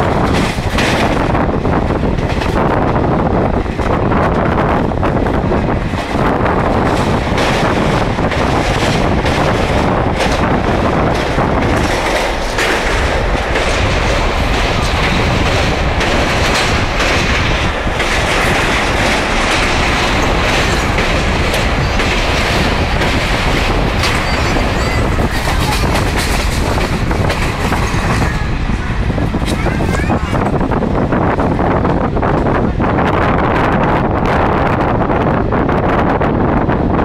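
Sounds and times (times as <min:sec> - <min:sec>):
wheels clattering over rail joints: 0:00.0 - 0:32.8
train rumbling: 0:00.0 - 0:37.0.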